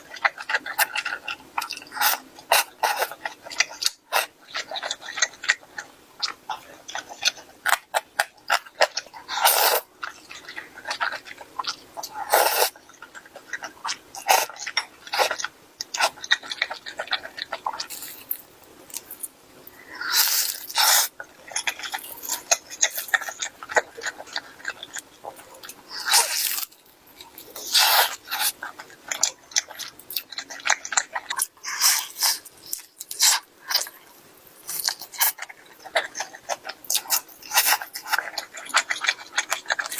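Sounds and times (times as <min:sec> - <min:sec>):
crunchy eating and chewing: 0:00.0 - 0:39.9.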